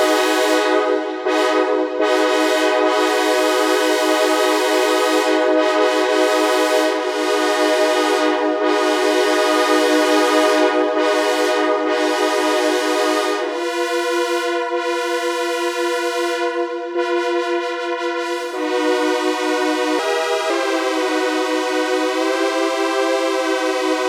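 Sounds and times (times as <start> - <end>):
synthesizer train horn chord: 0.0 - 24.0.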